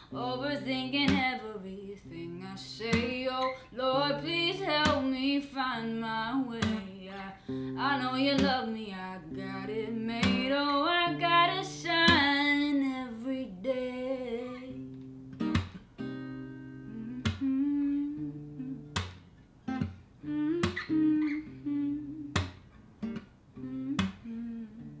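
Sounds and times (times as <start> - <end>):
acoustic guitar strumming: 0.0 - 13.0, 13.6 - 25.0
person singing: 0.0 - 14.8, 16.8 - 18.8, 20.2 - 22.5, 23.6 - 25.0.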